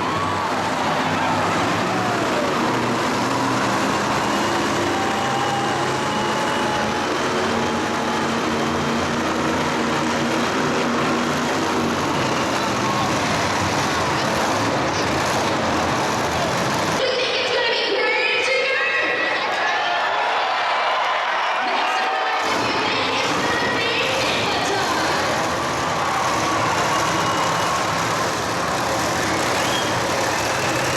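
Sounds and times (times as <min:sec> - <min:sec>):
racing engines revving: 0:00.0 - 0:17.5, 0:21.6 - 0:30.9.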